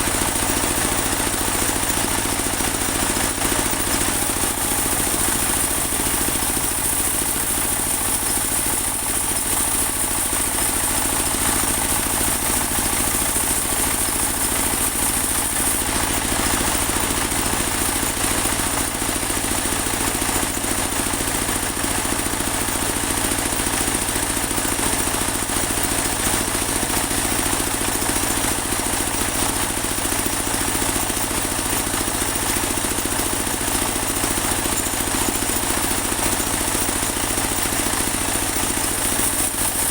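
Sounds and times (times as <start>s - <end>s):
sawmill motor running: 0.0s - 39.9s.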